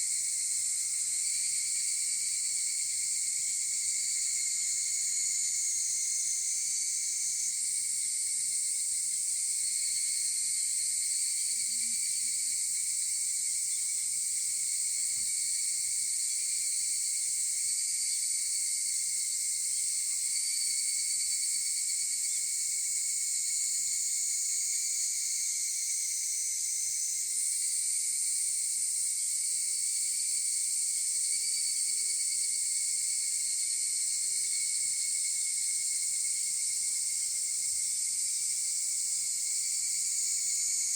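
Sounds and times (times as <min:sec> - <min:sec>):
cicadas calling in chorus: 0:00.0 - 0:40.9.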